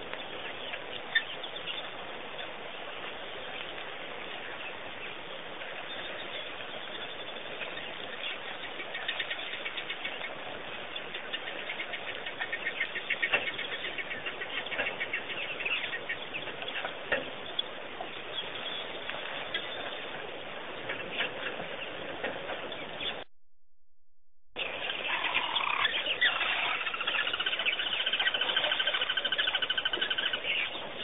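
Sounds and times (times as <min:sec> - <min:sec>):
small birds chirping: 0:00.0 - 0:23.3, 0:24.6 - 0:31.0
steady outdoor hiss: 0:00.0 - 0:23.3, 0:24.6 - 0:31.0.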